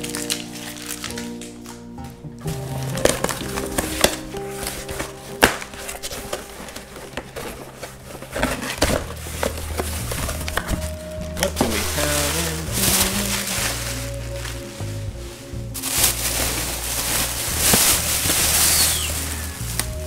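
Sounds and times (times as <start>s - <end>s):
background music with held notes: 0.0s - 20.0s
package being handled and opened: 0.0s - 20.0s.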